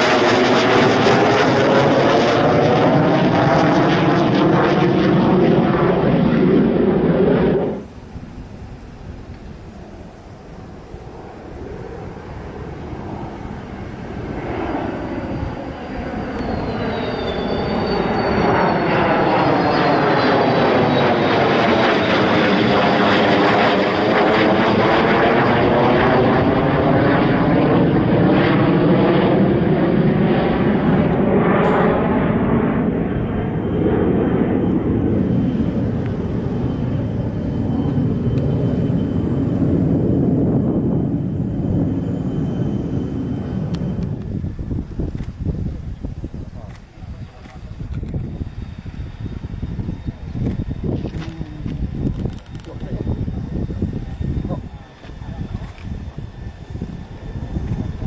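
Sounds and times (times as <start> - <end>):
fighter jet flying past: 0.0 - 58.0.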